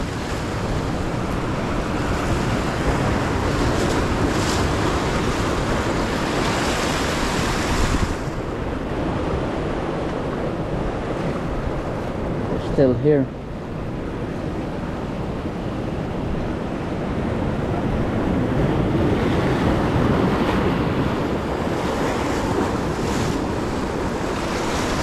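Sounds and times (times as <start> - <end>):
surf washing against rocks: 0.0 - 25.0
wind on microphone: 0.0 - 25.0.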